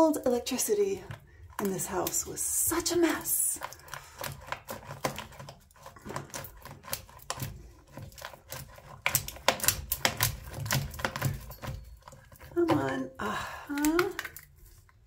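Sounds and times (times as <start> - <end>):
conduit clicking and cracking: 0.9 - 12.9, 13.5 - 15.0.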